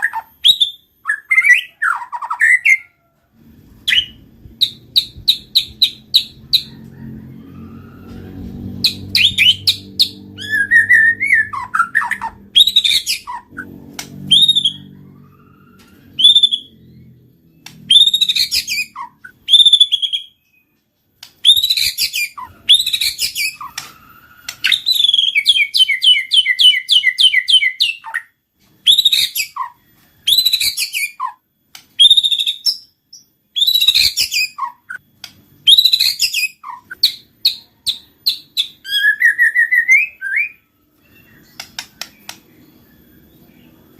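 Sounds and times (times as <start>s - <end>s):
bird singing: 3.8s - 6.8s, 8.5s - 43.9s.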